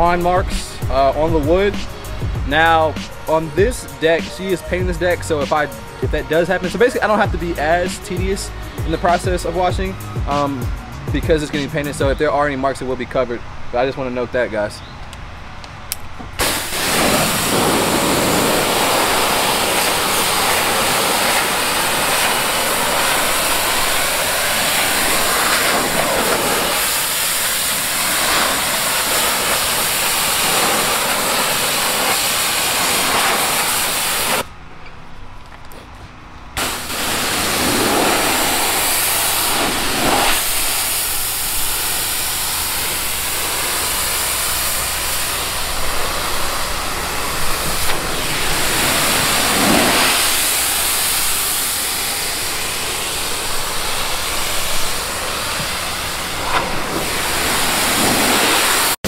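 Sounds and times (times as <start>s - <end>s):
pressure washer spraying wood: 0.0s - 12.6s, 16.3s - 34.5s, 36.6s - 59.0s.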